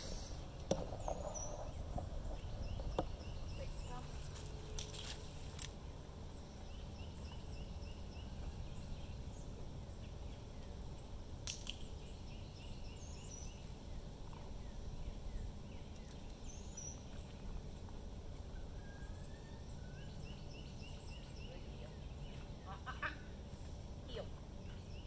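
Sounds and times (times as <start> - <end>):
bird chirping: 0.0 - 5.1, 6.3 - 17.8, 18.6 - 23.2
steady low rumble: 0.0 - 25.0.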